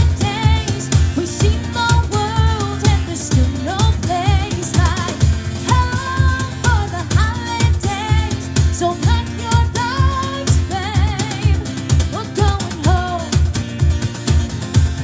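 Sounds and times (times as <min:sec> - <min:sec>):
woman singing: 0:00.0 - 0:13.6
cajon beat: 0:00.0 - 0:15.0
strummed acoustic guitar: 0:00.0 - 0:15.0.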